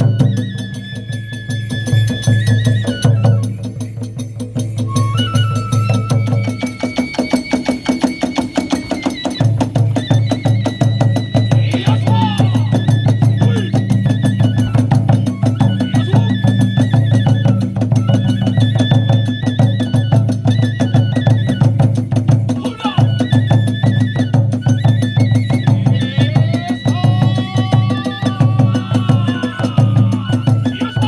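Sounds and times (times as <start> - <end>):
drum strokes: 0.0 - 31.0
hand cymbal strokes: 0.0 - 31.0
high held flute: 0.0 - 31.0.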